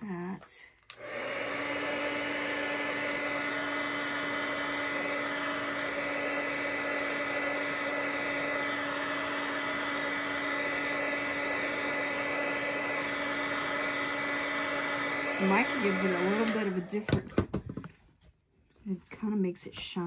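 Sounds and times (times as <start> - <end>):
hot-air blower rushing air: 0.9 - 17.2.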